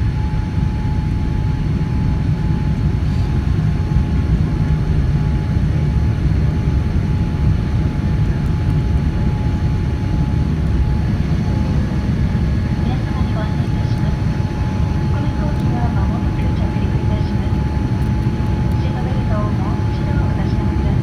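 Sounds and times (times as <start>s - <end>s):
airplane engine rumble: 0.0s - 21.0s
faint constant whine: 0.0s - 21.0s.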